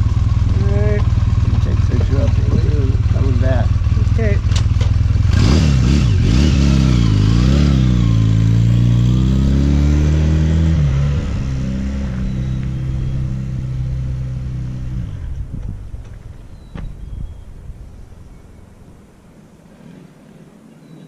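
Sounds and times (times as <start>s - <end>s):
motorcycle engine pulling away: 0.0s - 19.0s.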